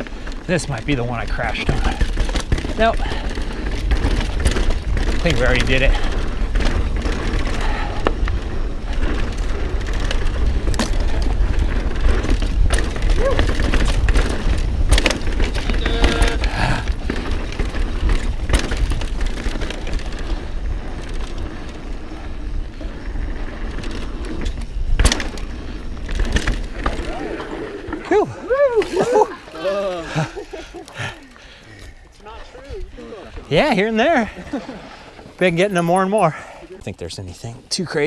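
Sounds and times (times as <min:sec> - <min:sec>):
bike chain and frame rattling: 0:00.0 - 0:38.0
tyre and wind rumble: 0:00.0 - 0:38.0.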